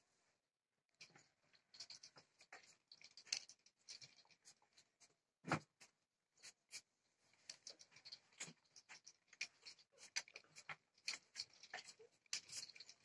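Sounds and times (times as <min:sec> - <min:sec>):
dough rustling and scratching: 0:01.2 - 0:13.0.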